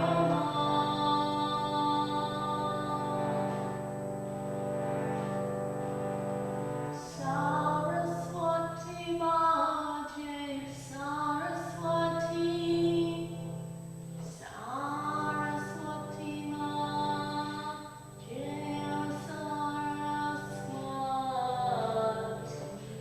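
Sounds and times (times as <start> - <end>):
woman singing a slow chant: 0.0 - 4.1, 7.0 - 13.6, 14.2 - 23.0.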